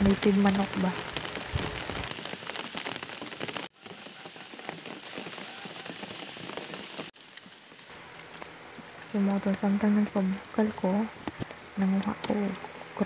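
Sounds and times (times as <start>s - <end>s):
soup boiling and bubbling: 0.0s - 13.0s.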